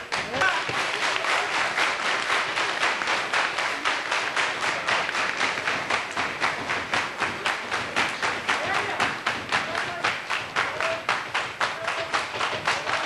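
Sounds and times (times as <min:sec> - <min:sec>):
crowd clapping rhythmically: 0:00.0 - 0:13.0.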